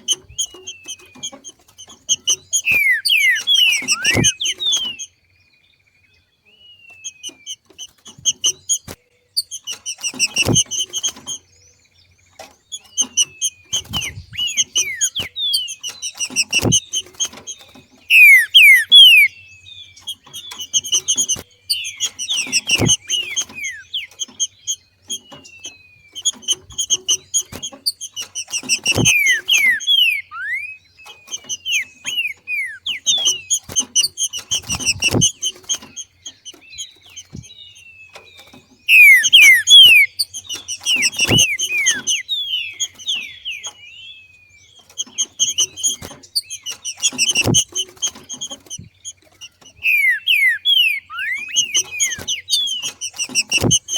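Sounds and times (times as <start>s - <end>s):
bird chattering call: 0.0s - 5.2s, 12.7s - 43.9s, 44.7s - 53.9s.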